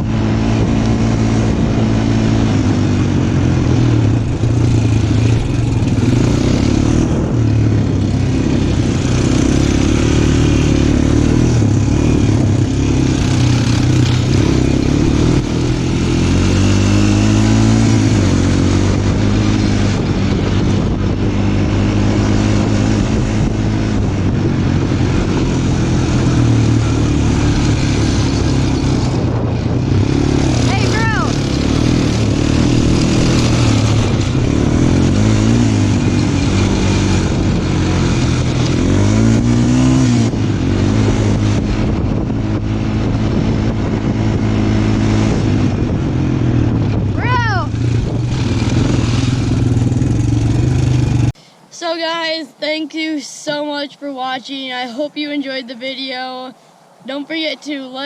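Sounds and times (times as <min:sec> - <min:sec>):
off-road vehicle engine revving: 0:00.0 - 0:52.8.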